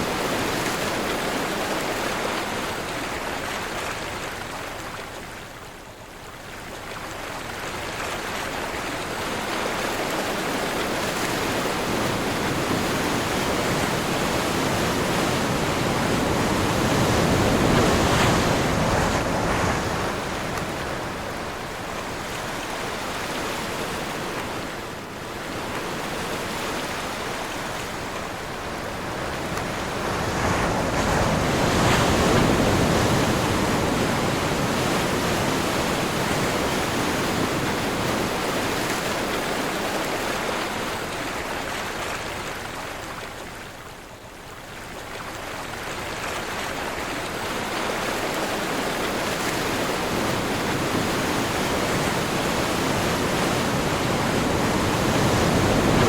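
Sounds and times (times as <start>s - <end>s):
sea waves breaking: 0.0s - 5.2s, 7.0s - 44.2s, 45.0s - 56.0s
wind: 0.0s - 56.0s.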